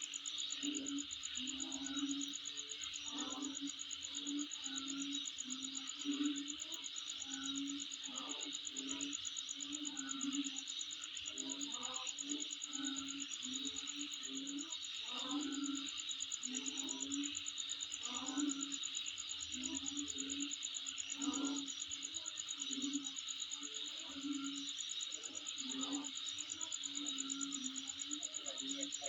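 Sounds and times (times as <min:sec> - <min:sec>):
night insects chorus: 0:00.0 - 0:29.0.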